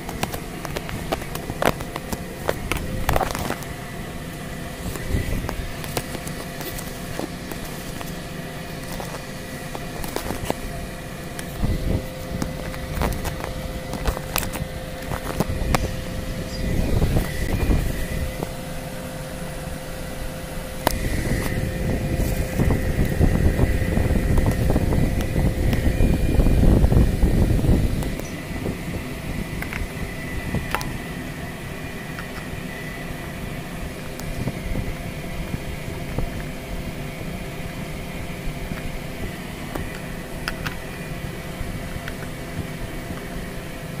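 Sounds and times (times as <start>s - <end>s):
mechanical hum: 0.0s - 44.0s.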